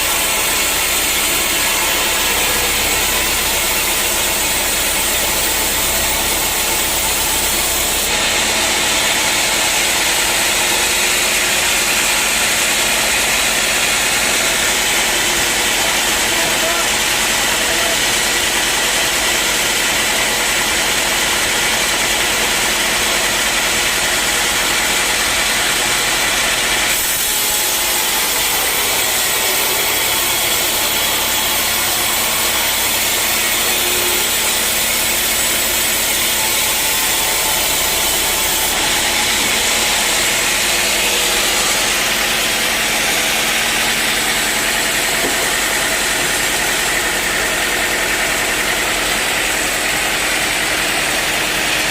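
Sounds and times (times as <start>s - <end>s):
saw cutting through board: 0.0s - 51.9s
sawmill saw running: 0.0s - 51.9s.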